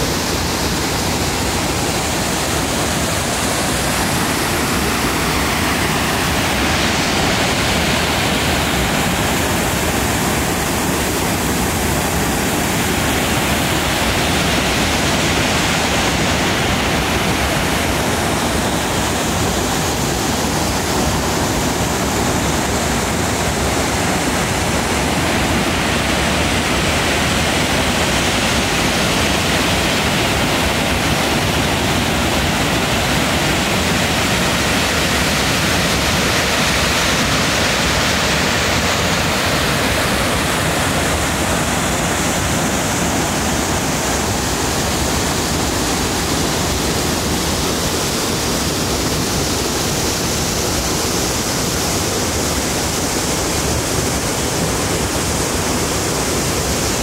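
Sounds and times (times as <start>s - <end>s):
rush of falling water: 0.0s - 57.0s.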